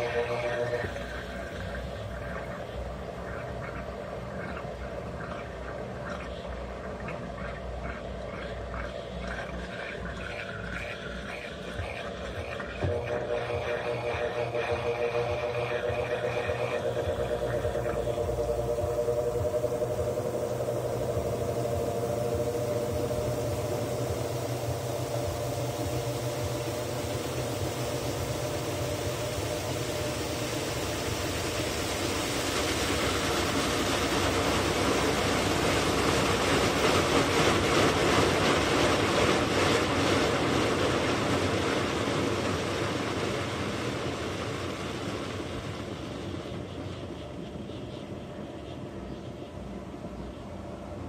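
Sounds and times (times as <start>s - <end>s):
washing machine spin cycle: 0.0s - 51.0s.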